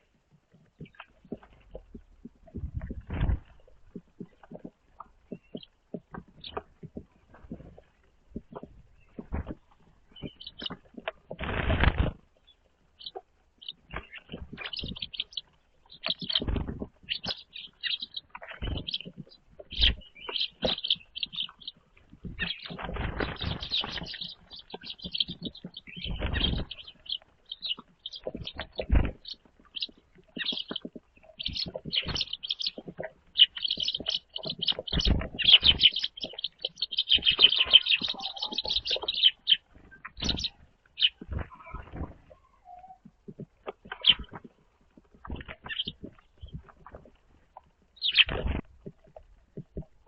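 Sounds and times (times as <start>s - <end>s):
small birds chirping: 0.0s - 50.0s
wings flapping: 0.7s - 12.4s, 13.0s - 42.4s, 43.2s - 47.2s, 48.0s - 49.9s.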